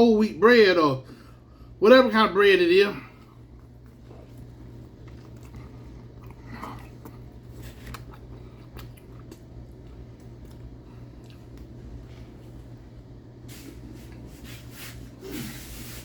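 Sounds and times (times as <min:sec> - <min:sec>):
steady low hum: 0:00.0 - 0:16.0
man chewing sandwich: 0:03.0 - 0:16.0.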